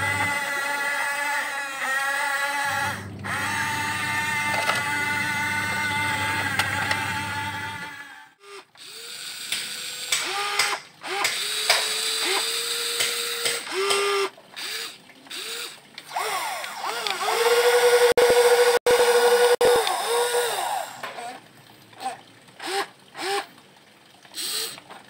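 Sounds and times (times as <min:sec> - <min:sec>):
small electric motors whining: 0:00.0 - 0:21.4.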